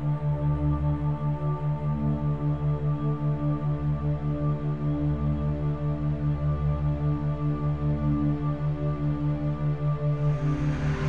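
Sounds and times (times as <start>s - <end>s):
ambient music with sustained chords: 0.0s - 11.0s.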